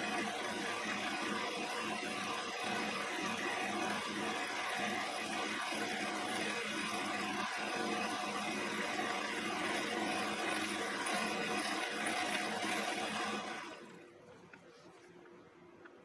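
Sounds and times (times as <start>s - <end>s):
grinder grinding steel cutter: 0.0s - 13.8s.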